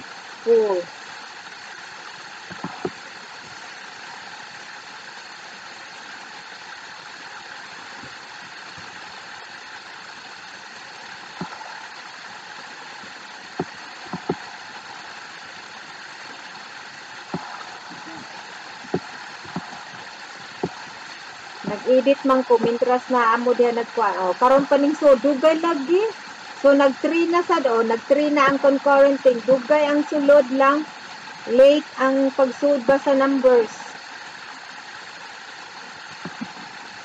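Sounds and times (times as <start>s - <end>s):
hiss-like hum: 0.0s - 37.0s.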